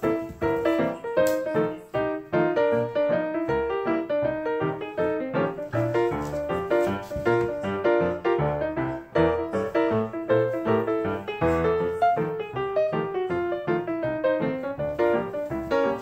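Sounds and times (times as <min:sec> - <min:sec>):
piano music with quick notes: 0:00.0 - 0:16.0.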